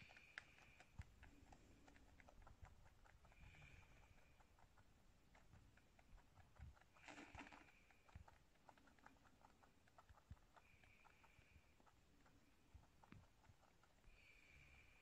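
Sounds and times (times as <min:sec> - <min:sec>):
rabbit mouth clicking on bowl: 0:00.0 - 0:14.8.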